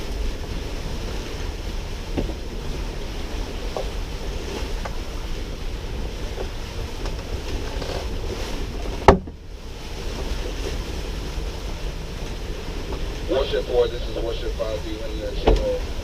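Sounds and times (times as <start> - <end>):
wind and water rushing: 0.0 - 16.0.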